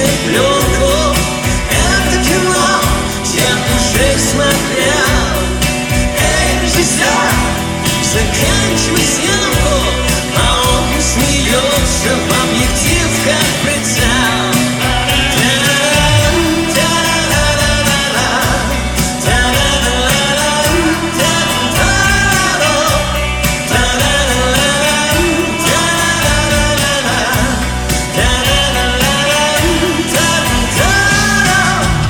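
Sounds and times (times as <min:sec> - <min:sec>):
live rock band playing: 0:00.0 - 0:32.0
person singing: 0:00.0 - 0:32.0.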